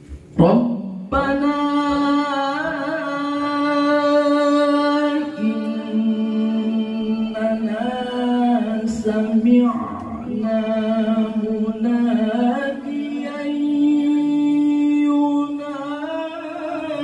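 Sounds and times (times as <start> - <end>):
man reciting melodically into microphone: 0.2 - 17.0.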